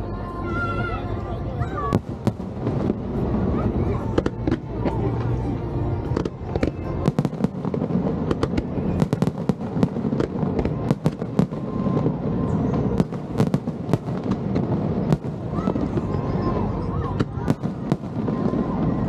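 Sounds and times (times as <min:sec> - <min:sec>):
constant low rumble: 0:00.0 - 0:19.0
fireworks bangs and cracks: 0:01.8 - 0:19.0.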